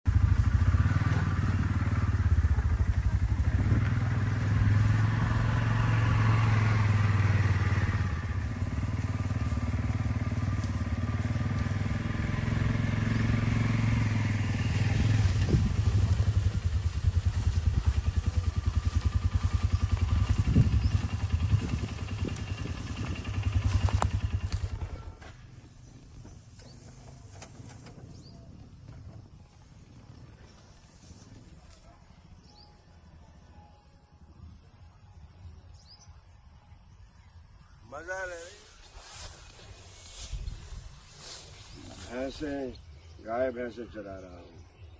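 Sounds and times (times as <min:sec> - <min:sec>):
vehicle engine running: 0:00.0 - 0:43.1.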